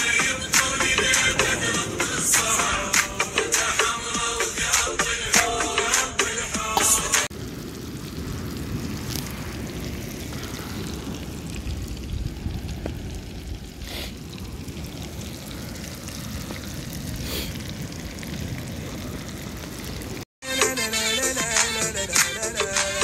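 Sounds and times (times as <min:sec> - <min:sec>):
low rumbling outdoor noise: 0:00.0 - 0:20.2.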